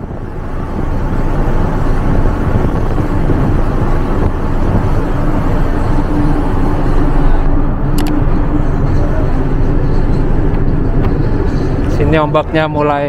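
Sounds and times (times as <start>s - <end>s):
sea noise: 0.0s - 11.9s
ship engine: 0.0s - 13.0s
wind on microphone: 0.0s - 13.0s.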